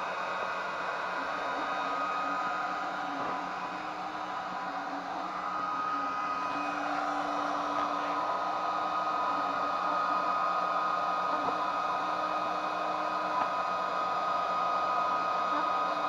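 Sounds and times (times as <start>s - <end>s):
laser engraver whirring hiss: 0.0s - 16.0s
low motor hum: 1.2s - 16.0s.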